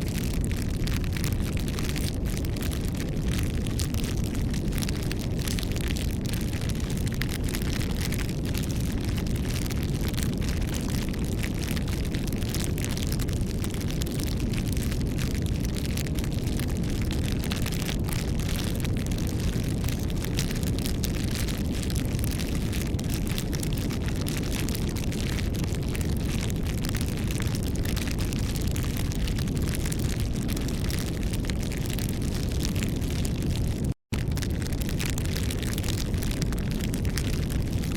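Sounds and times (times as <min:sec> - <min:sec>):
bonfire wood crackling and popping: 0:00.0 - 0:37.9
low fire rumble: 0:00.0 - 0:37.9.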